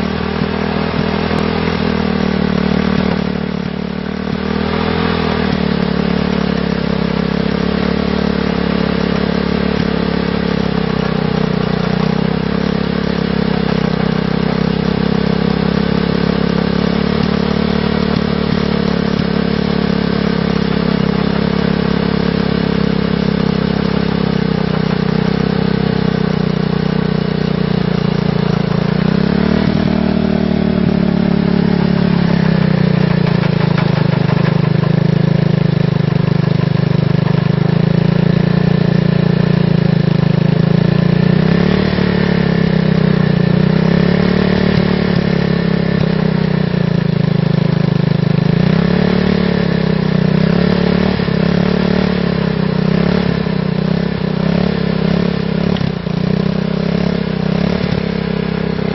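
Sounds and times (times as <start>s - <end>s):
quad bike engine running: 0.0s - 58.9s.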